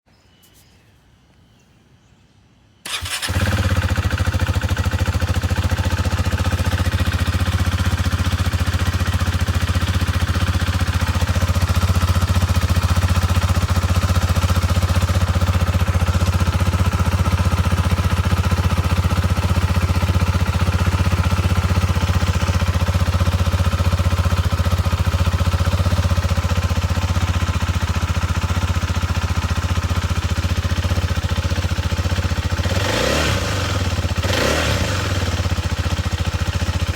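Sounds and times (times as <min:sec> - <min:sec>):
motorcycle engine starting and idling: 0:02.8 - 0:36.9.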